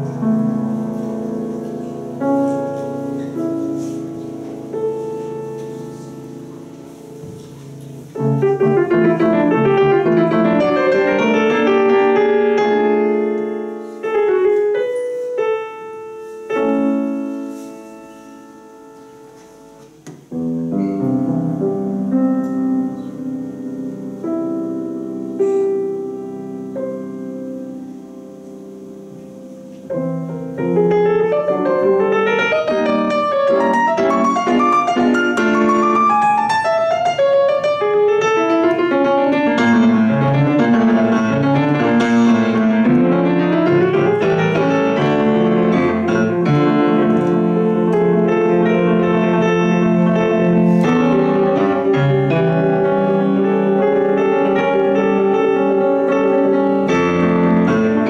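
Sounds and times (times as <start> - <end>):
solo grand piano playing: 0.0 - 58.0.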